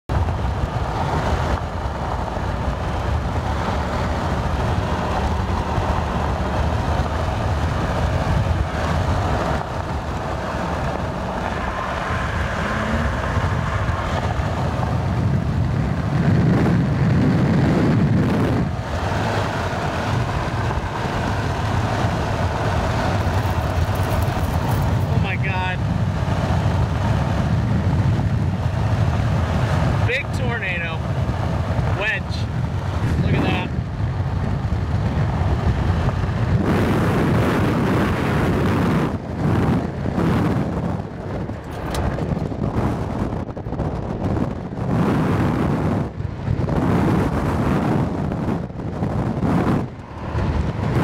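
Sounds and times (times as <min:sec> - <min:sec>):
road and tyre noise: 0:00.0 - 0:51.0
wind on microphone: 0:00.1 - 0:51.0.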